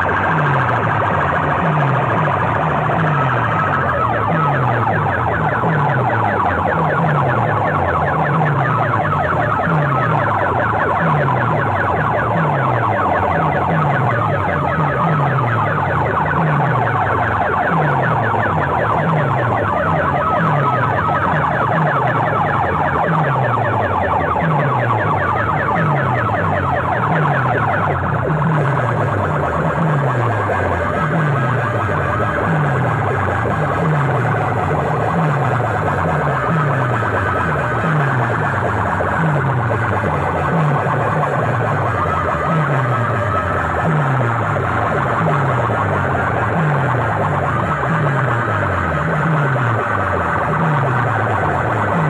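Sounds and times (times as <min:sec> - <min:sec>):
distorted siren-like electronic sound: 0:00.0 - 0:52.0
low falling bass sweep: 0:00.0 - 0:52.0
wavering high tone: 0:00.0 - 0:52.0.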